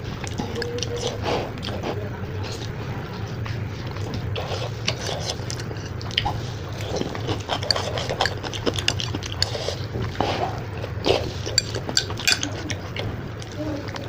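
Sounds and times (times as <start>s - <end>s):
steady low hum: 0.0s - 14.0s
wet chewing and slurping: 0.0s - 14.0s.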